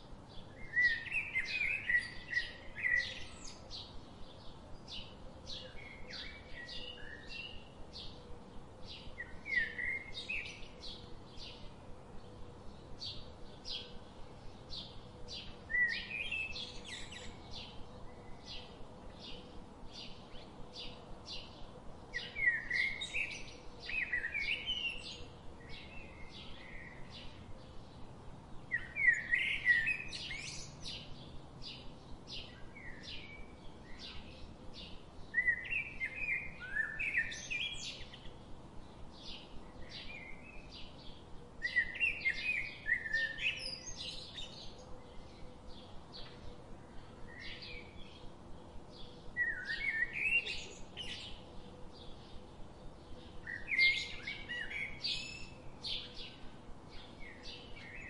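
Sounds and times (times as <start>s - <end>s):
warbling birdsong: 0.0s - 58.0s.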